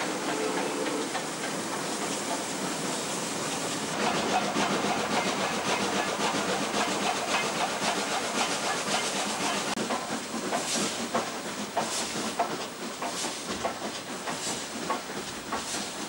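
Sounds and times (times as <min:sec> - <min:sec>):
train running noise and hiss: 0:00.0 - 0:16.0
wheels clattering on rail joints: 0:00.0 - 0:16.0.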